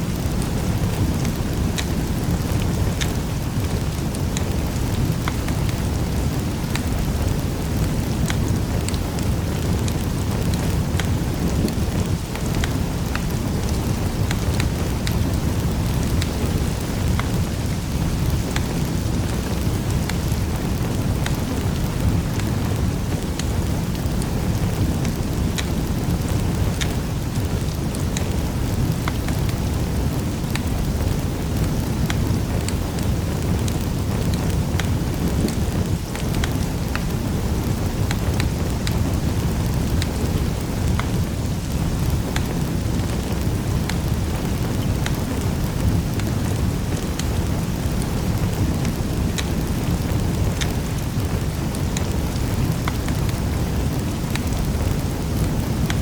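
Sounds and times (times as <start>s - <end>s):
fire crackling in a fireplace: 0.0s - 56.0s.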